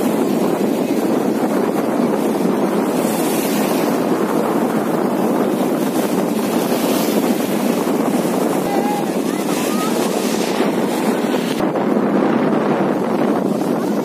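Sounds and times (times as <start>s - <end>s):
surf breaking over shallow water: 0.0s - 14.0s
wind on microphone: 0.0s - 14.0s.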